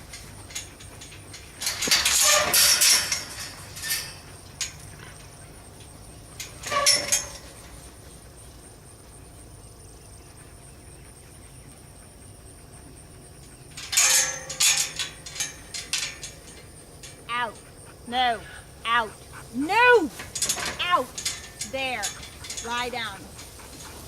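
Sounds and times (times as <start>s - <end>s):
animals knocking and scuffling: 0.0s - 9.4s, 13.3s - 24.0s.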